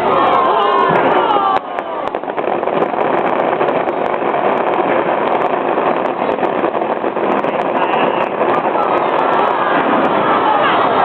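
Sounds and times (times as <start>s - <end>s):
continuous rumbling din: 0.0s - 11.0s
fireworks crackling and banging: 0.0s - 11.0s.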